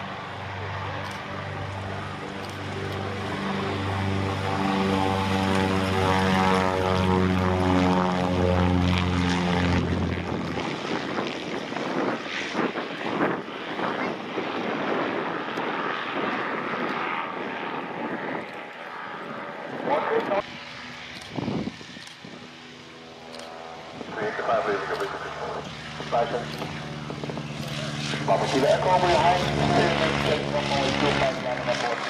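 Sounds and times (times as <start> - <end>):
propeller aircraft engines droning: 0.0 - 32.0.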